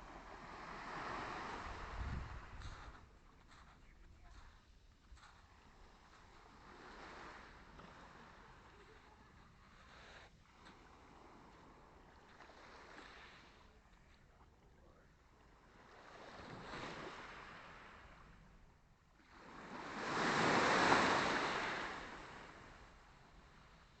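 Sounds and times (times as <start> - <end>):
small waves washing on shore: 0.0 - 18.5, 19.2 - 24.0.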